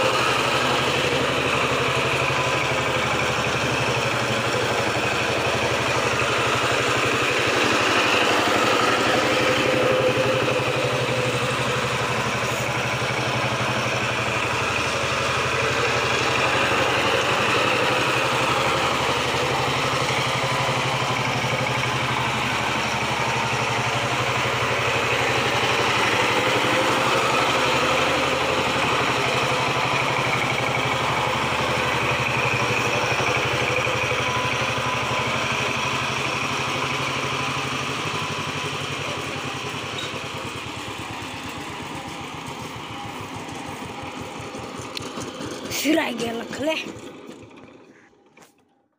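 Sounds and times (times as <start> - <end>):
power tiller diesel engine chugging: 0.0 - 48.9.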